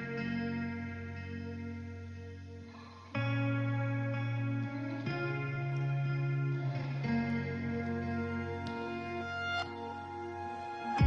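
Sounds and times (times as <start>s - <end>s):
sustained guitar chords with effects: 0.0s - 11.0s.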